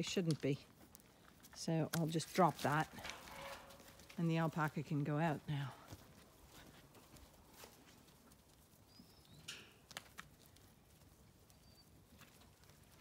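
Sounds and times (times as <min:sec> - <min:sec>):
alpaca hooves on muddy gravel: 0:00.0 - 0:13.0.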